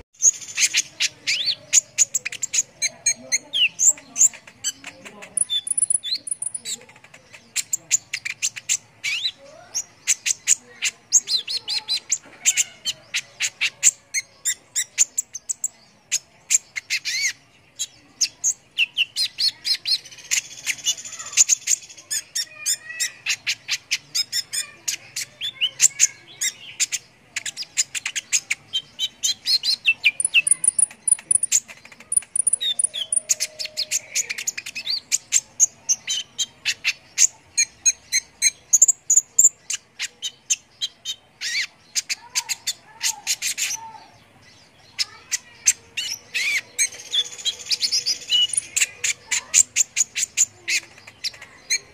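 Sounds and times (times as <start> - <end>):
bird singing high chirps and trills: 0.0 - 51.9.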